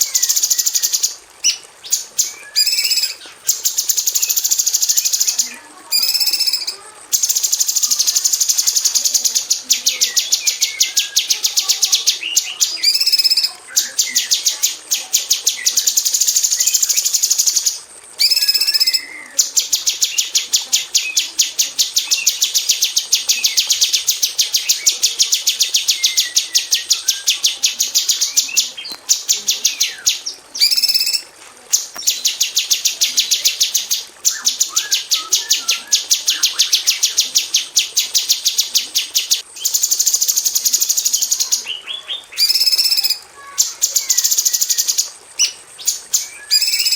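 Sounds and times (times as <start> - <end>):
bird calls: 0.0 - 46.9
bird singing rapid high notes: 0.0 - 46.9.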